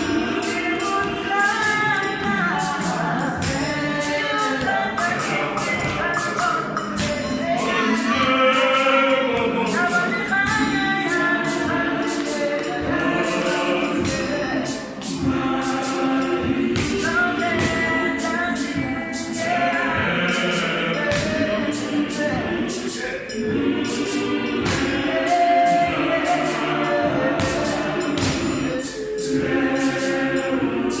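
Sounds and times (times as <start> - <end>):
choir singing in harmony: 0.0 - 31.0
percussion beat: 0.0 - 31.0.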